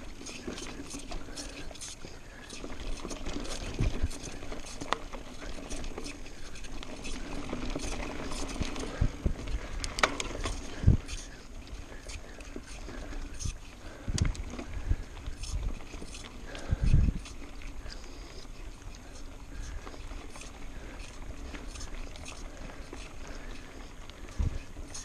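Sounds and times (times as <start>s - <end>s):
bike clicks and rattles: 0.0s - 25.0s
bike tyres on dirt: 0.0s - 25.0s.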